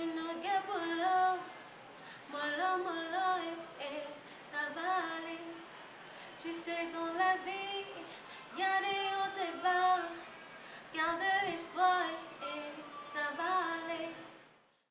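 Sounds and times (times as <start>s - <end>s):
woman singing: 0.0s - 1.6s, 2.2s - 5.7s, 6.4s - 14.3s.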